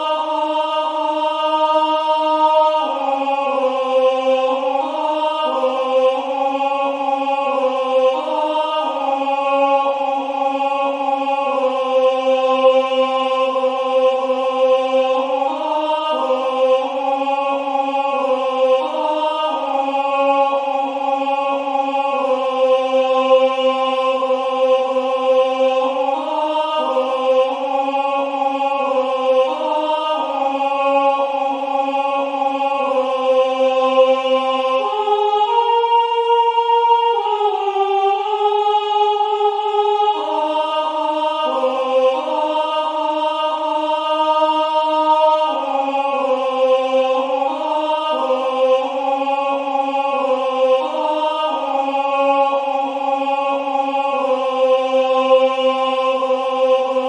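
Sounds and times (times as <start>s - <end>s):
synthesized choir singing a hymn: 0.0s - 57.0s.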